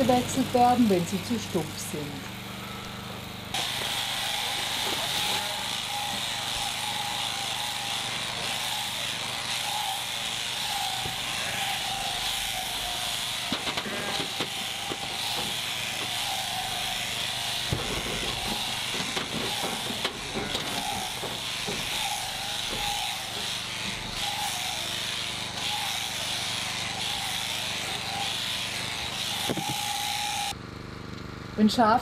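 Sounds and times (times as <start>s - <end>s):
electric shears buzzing whine: 0.0s - 30.6s.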